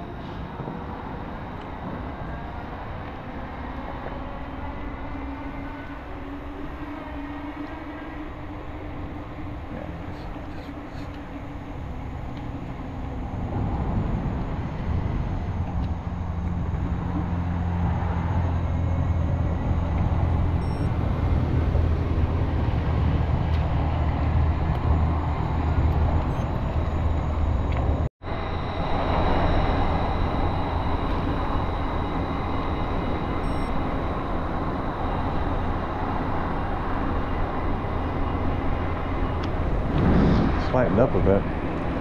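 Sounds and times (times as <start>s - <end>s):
highway traffic roar: 0.0s - 42.0s.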